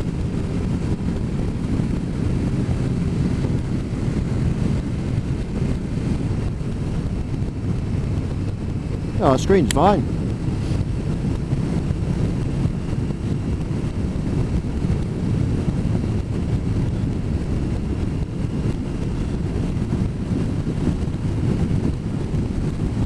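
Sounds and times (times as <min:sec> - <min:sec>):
motorcycle road and engine noise: 0:00.0 - 0:23.0
wind buffeting microphone: 0:00.0 - 0:23.0.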